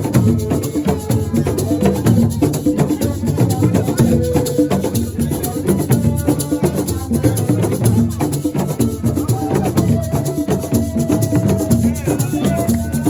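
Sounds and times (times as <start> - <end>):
shakers: 0.0 - 13.0.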